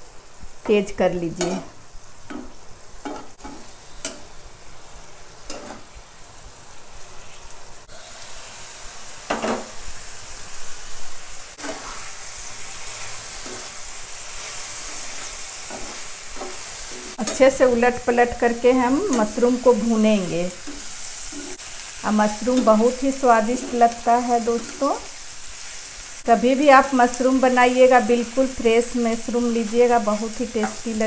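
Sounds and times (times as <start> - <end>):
mushrooms and onion sizzling: 0.0 - 31.0.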